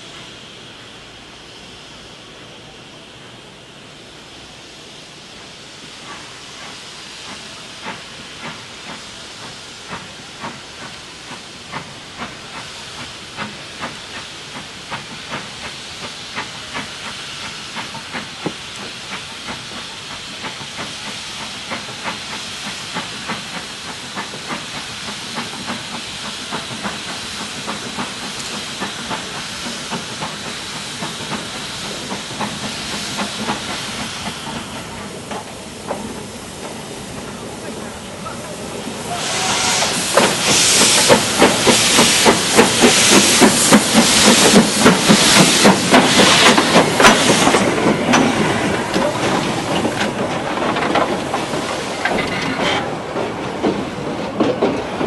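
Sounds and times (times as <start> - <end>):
steam hissing: 0.0 - 55.0
steam locomotive exhaust chuffs: 0.0 - 55.0.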